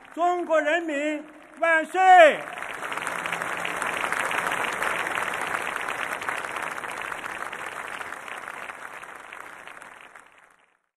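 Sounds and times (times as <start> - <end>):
crowd applauding: 0.0 - 10.9.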